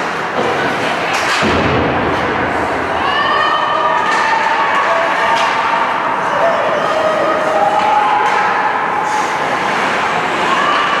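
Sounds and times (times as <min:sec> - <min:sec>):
skates and sticks on ice: 0:00.0 - 0:03.2, 0:03.9 - 0:11.0.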